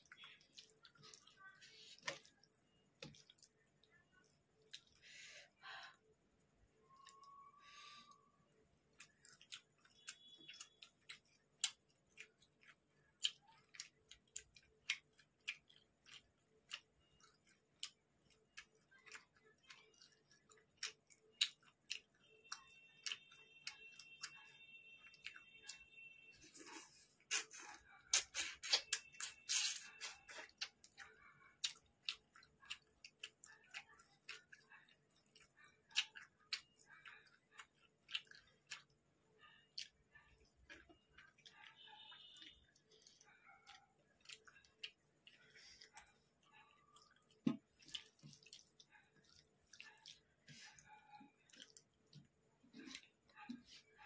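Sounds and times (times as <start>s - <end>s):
fingers squelching wet food: 0.0s - 5.1s, 6.8s - 25.8s, 26.6s - 54.0s.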